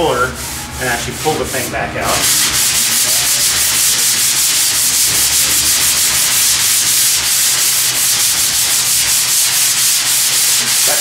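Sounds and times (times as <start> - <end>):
sanding block rasping on metal: 0.2 - 11.0.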